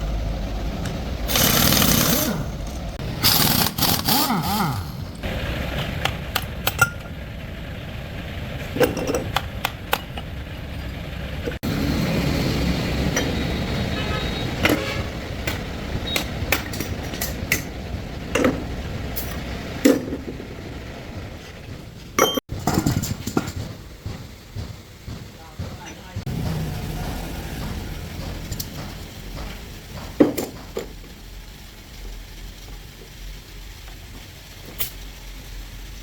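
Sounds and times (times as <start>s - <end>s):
low engine rumble: 0.0s - 36.0s.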